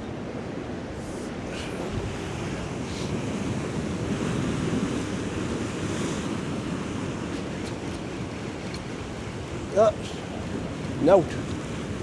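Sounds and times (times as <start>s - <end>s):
surf on rocky shore: 0.0s - 12.0s
wind buffeting microphone: 0.0s - 12.0s.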